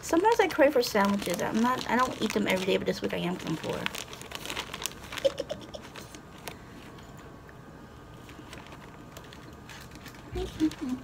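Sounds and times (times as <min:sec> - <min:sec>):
plastic bag crinkling: 0:00.0 - 0:07.0, 0:08.1 - 0:11.0.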